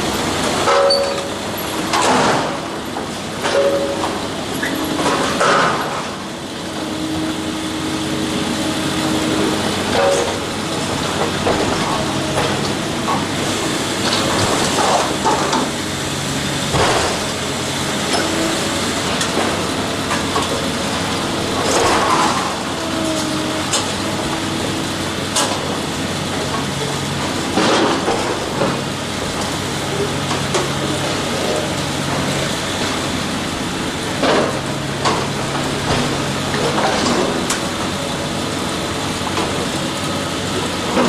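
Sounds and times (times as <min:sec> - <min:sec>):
heavy machinery running: 0:00.0 - 0:41.0.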